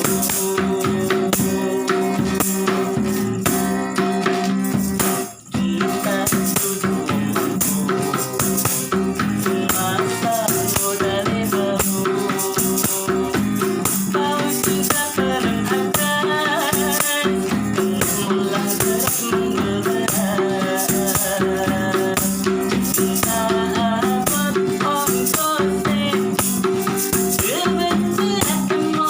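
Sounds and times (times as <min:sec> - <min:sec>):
tambourine jingling: 0:00.0 - 0:29.0.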